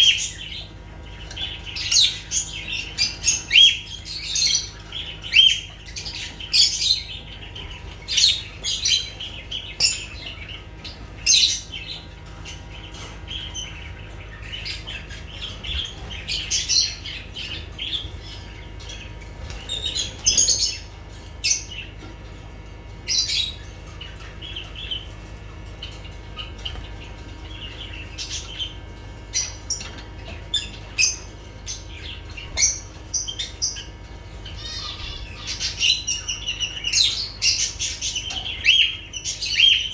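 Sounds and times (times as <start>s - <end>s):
lovebirds chirping and squawking: 0.0s - 39.9s
steady low hum: 0.0s - 39.9s.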